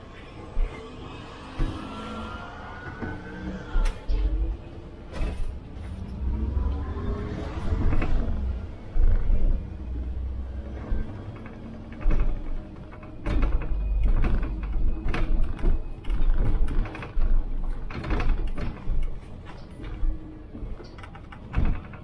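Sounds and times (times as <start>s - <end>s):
bus engine and road rumble: 0.0s - 22.0s
rattles and knocks of bus body: 3.8s - 22.0s.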